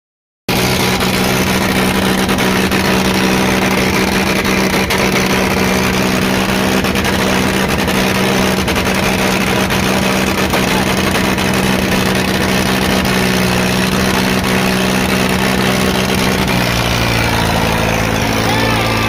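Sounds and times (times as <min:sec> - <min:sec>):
tractor diesel engine running: 0:00.5 - 0:19.0.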